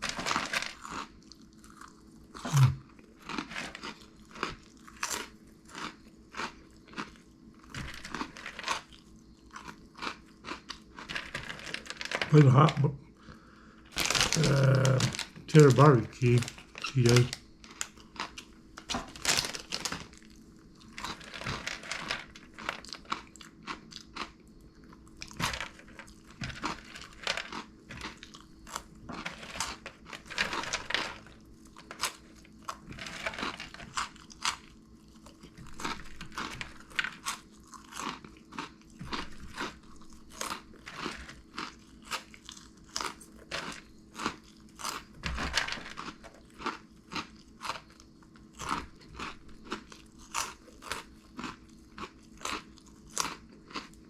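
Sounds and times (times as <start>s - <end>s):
crunching and chewing puffs: 0.0s - 54.0s.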